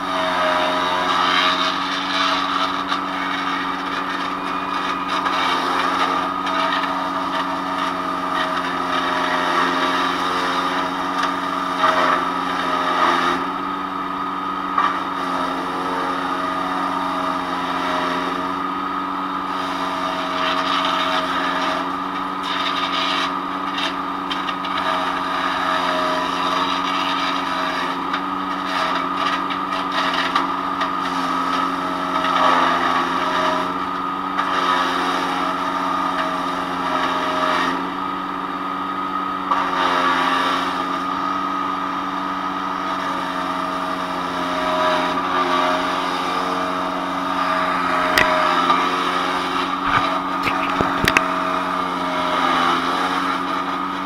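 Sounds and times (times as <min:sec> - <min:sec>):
small gas engine running: 0:00.0 - 0:54.0
wood chipper shredding branches: 0:00.0 - 0:54.0.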